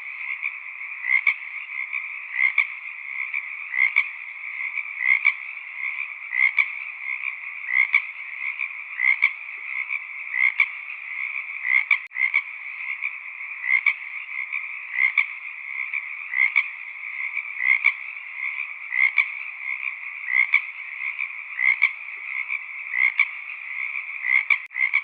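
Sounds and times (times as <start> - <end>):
frog chorus trilling: 0.0 - 25.0
frog double croaks: 0.0 - 25.0.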